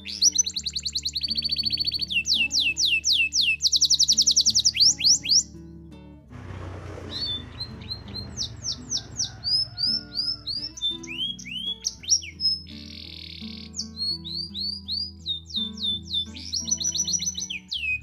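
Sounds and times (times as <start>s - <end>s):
canary singing: 0.0s - 5.6s, 6.4s - 18.0s
guitar music: 0.0s - 18.0s.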